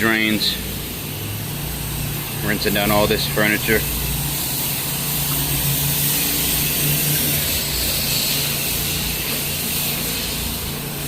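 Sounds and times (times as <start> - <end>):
high-pressure water spray hissing: 0.0 - 11.0
pressure washer engine running: 0.0 - 11.0.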